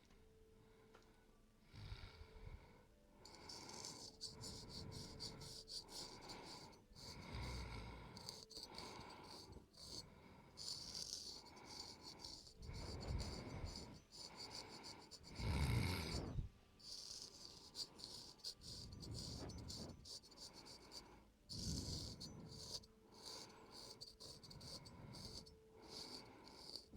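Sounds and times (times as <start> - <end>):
razor blade scraping skin: 3.3 - 26.9.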